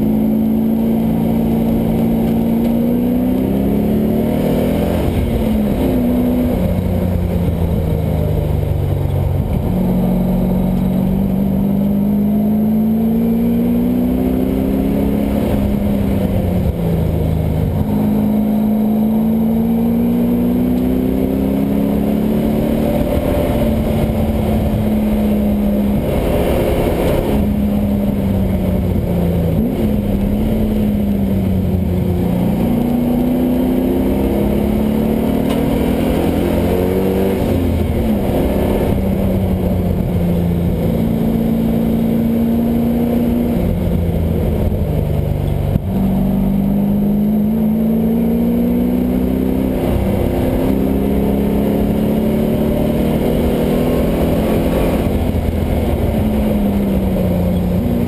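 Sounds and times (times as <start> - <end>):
engine revving through gear changes: 0.0 - 58.0.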